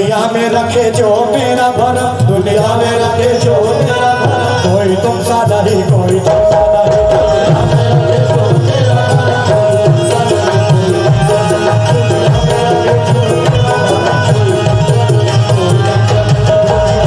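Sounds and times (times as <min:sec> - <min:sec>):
harmonium melody: 0:00.0 - 0:17.0
tabla rhythm: 0:00.0 - 0:17.0.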